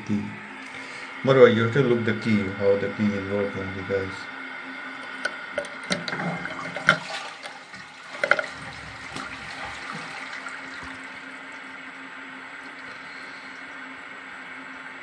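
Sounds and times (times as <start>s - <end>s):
toilet flushing water rush: 0.0s - 15.0s.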